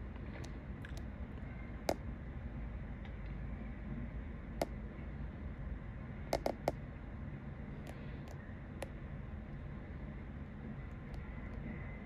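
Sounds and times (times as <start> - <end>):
distant city low rumble: 0.0 - 12.0.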